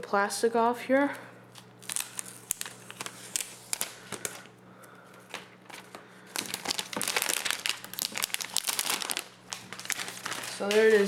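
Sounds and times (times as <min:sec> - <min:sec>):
plastic film crinkling: 0:01.5 - 0:11.0.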